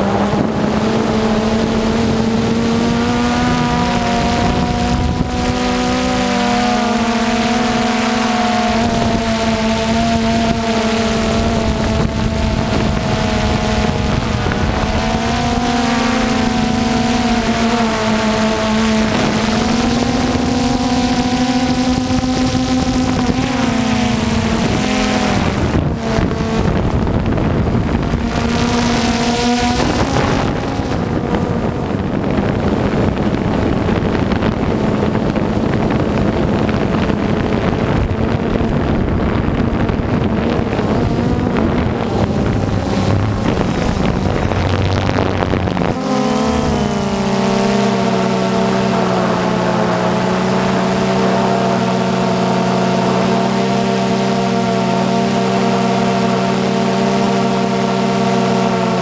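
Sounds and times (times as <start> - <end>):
drone propellers whining: 0.0 - 59.0
wind rushing over microphone: 0.0 - 59.0.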